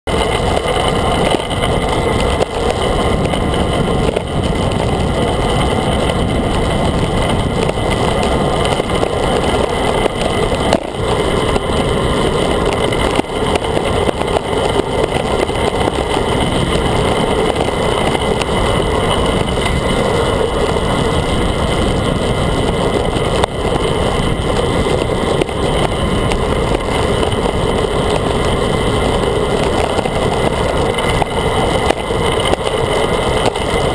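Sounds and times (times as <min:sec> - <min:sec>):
tyre rumble on asphalt: 0:00.1 - 0:33.9
wind rushing over camera: 0:00.1 - 0:33.9.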